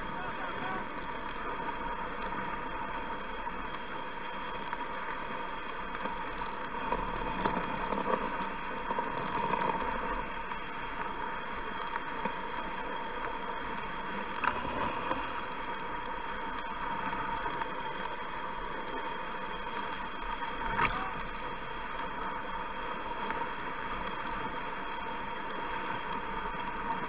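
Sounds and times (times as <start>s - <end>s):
faint steady whine: 0.0s - 27.0s
sled gliding over packed snow: 0.0s - 27.0s.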